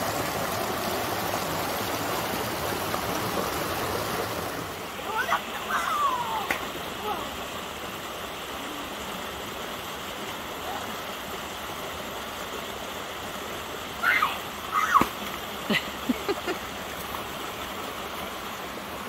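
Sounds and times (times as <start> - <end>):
creek babbling over stones: 0.0 - 19.0.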